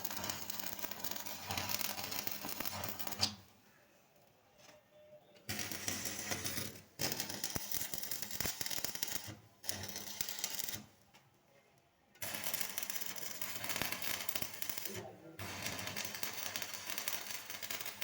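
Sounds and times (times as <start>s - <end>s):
crackling arc welding: 0.0s - 3.4s, 5.5s - 10.9s, 12.2s - 18.0s.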